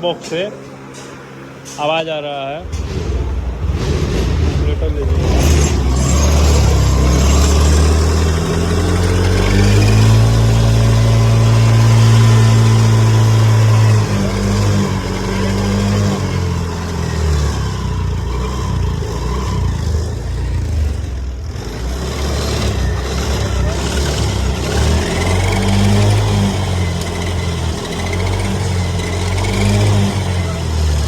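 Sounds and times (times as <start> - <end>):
scooter engine revving: 2.5 - 31.0
gearbox grinding: 2.6 - 31.0.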